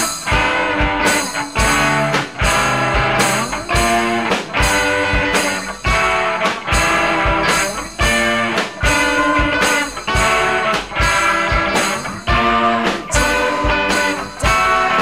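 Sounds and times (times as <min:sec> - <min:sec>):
electric guitar playing: 0:00.0 - 0:15.0.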